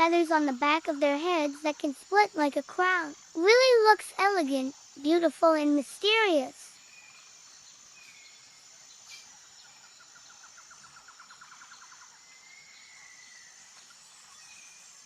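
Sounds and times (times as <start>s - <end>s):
high insect whine: 0.0s - 15.0s.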